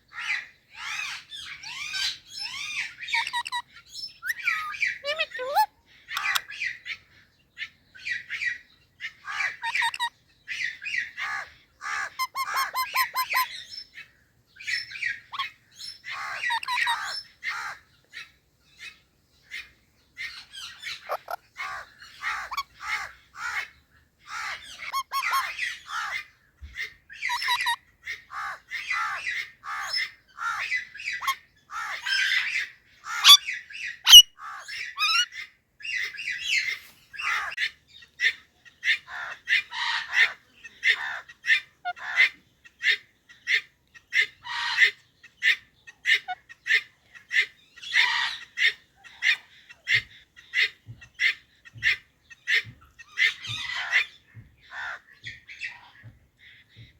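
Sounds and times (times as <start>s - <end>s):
parrots chattering and squawking: 0.1s - 7.0s, 8.0s - 56.8s.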